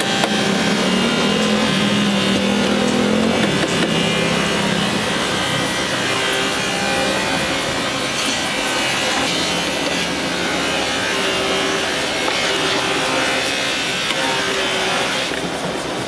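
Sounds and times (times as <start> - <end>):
tool rasping on plastic bumper: 0.0 - 16.0.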